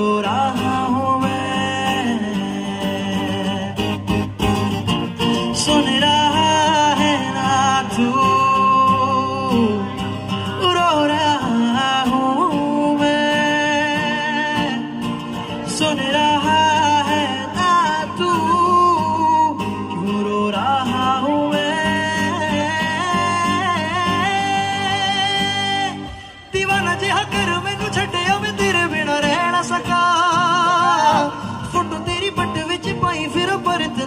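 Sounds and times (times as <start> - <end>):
man singing: 0.0 - 4.5, 5.1 - 34.0
acoustic guitar: 0.0 - 34.0.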